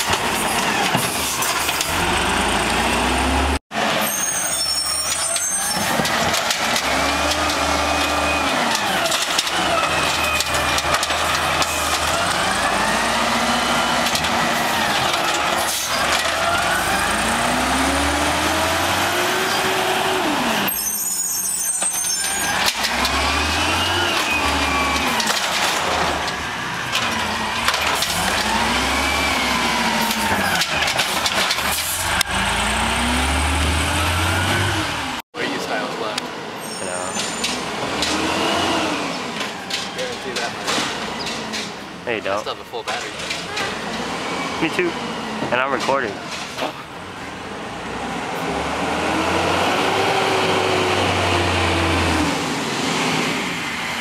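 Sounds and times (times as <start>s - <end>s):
truck engine and hydraulics: 0.0s - 54.0s.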